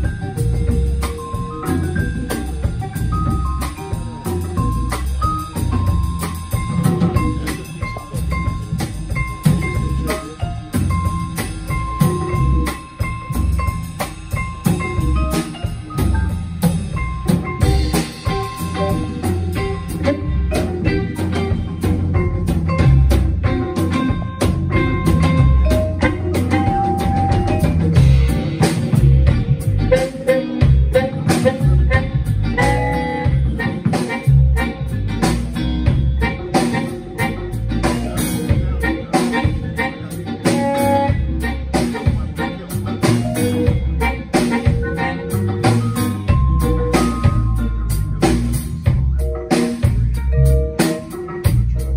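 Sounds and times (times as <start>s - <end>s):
drum kit: 0.0s - 51.9s
electric guitar: 0.0s - 51.9s
harmonica: 0.0s - 51.9s
upright bass: 0.0s - 51.9s
vibraphone notes: 0.0s - 51.9s.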